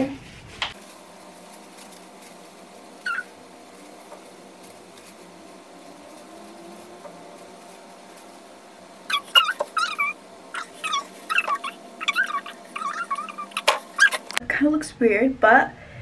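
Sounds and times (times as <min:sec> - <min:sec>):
faint steady hum: 0:00.3 - 0:16.0.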